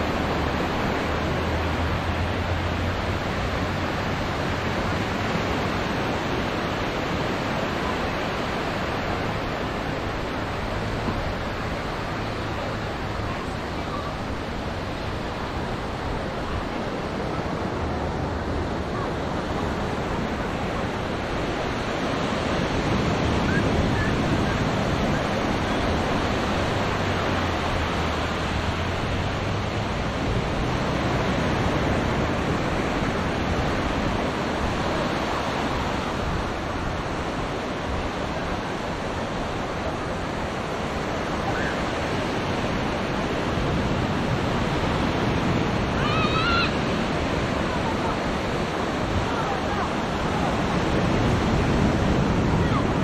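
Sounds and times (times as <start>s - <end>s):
small waves breaking on sand: 0.0s - 53.0s.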